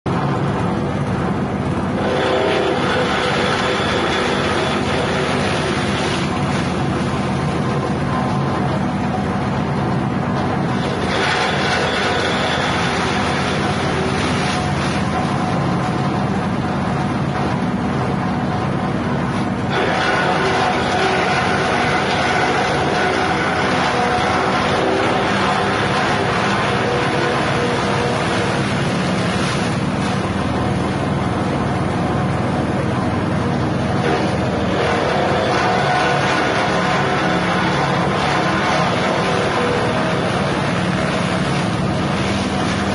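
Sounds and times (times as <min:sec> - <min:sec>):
grass chopper engine running: 0:00.1 - 0:42.9
blades cutting grass stalks: 0:01.8 - 0:09.7, 0:10.3 - 0:17.6, 0:19.3 - 0:32.0, 0:33.8 - 0:42.9.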